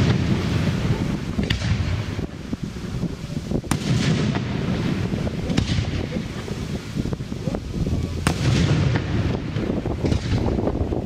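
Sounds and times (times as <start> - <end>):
rolling echo: 0.0 - 7.2, 8.0 - 11.0
firework shells bursting: 0.0 - 11.0.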